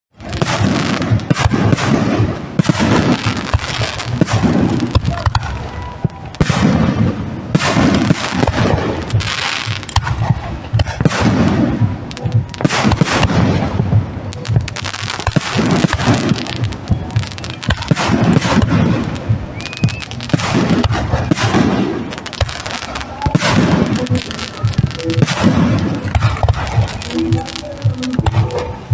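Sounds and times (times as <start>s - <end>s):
fireworks booming: 0.1s - 28.9s
fireworks crackling: 0.1s - 28.9s.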